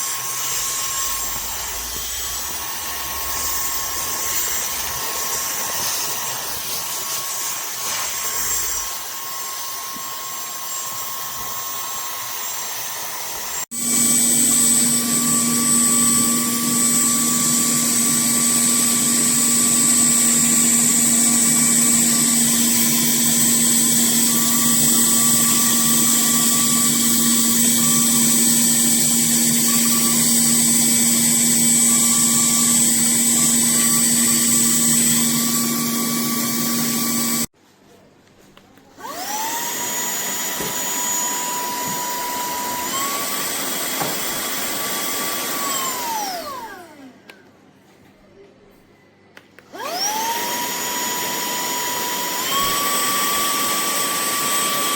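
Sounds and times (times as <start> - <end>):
handheld vacuum cleaner motor: 0.0 - 37.5, 39.0 - 47.4, 49.6 - 54.9.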